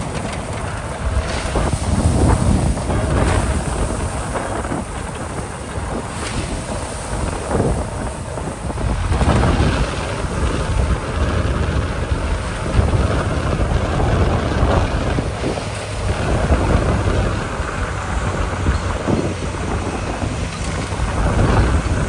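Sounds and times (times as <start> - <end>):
truck diesel engine running hard: 0.0 - 22.0
wind buffeting microphone: 0.0 - 22.0.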